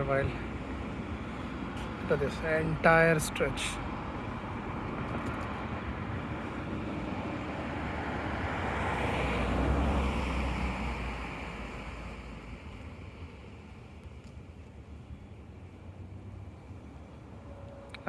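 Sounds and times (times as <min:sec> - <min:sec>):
vehicle passing on road: 0:00.0 - 0:18.0.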